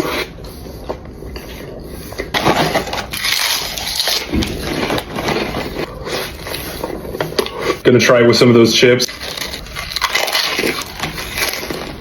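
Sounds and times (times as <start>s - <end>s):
chewing crunchy chips: 0.9s - 7.8s, 9.1s - 12.0s.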